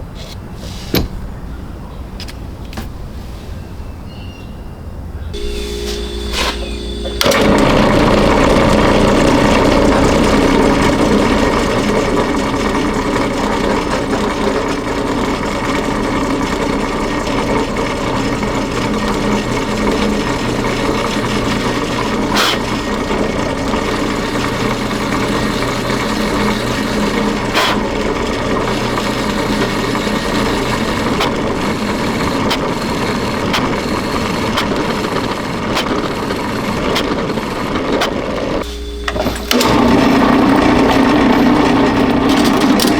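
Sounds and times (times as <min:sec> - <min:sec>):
workshop tool motor running: 0:05.4 - 0:42.9.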